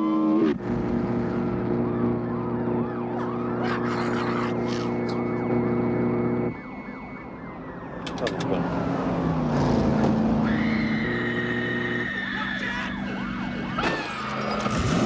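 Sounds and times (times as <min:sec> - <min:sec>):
car engines running hard: 0:00.0 - 0:15.0
police siren wailing: 0:00.0 - 0:15.0.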